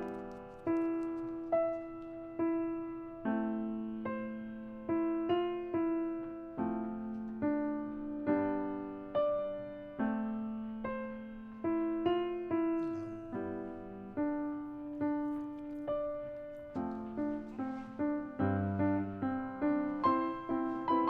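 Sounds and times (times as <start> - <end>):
slow piano playing: 0.0 - 21.0.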